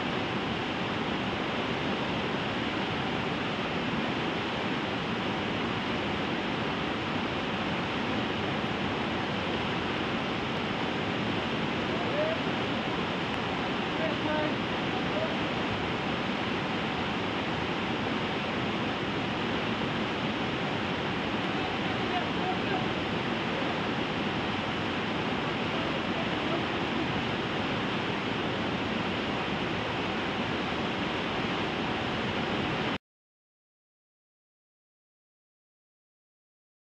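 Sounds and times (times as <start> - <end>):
rapids rushing over boulders: 0.0 - 33.0.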